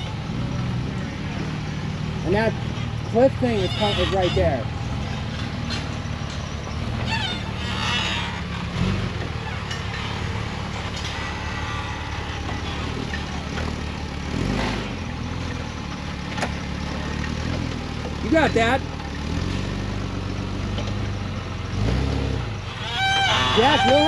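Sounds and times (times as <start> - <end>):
vehicle engine running at low revs: 0.0 - 22.7.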